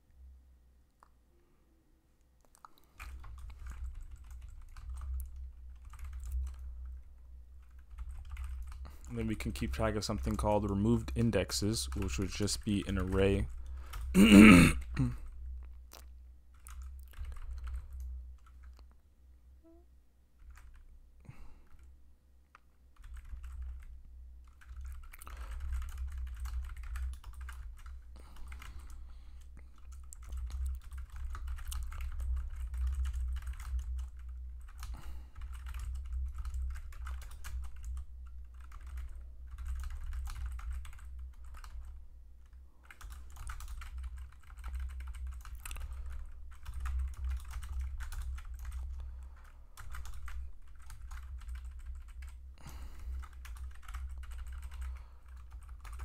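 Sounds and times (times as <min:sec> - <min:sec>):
computer keyboard typing: 0:02.5 - 0:15.4, 0:16.5 - 0:18.9, 0:20.4 - 0:21.9, 0:22.6 - 0:56.0.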